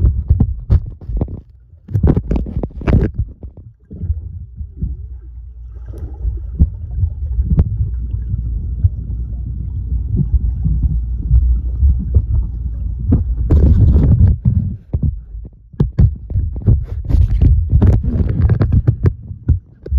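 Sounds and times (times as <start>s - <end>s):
muffled underwater rumble: 0.0s - 19.9s
underwater clicks and bubbling: 0.0s - 19.9s.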